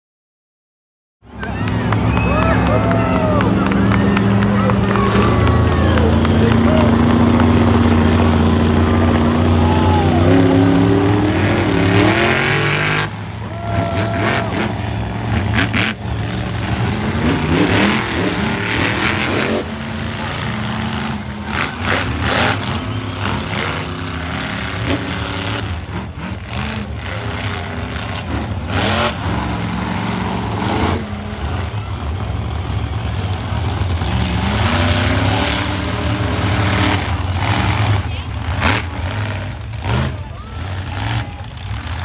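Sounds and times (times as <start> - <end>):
truck engine revving: 1.2 - 42.0.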